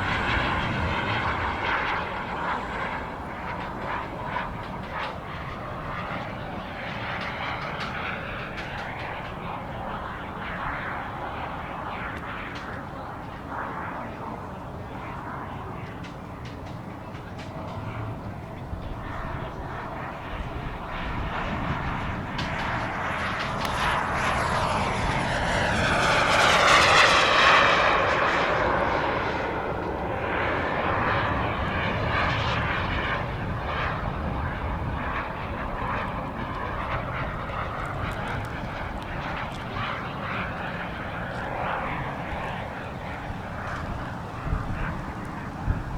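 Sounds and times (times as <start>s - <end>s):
model jet turbine flying past: 0.0s - 45.9s.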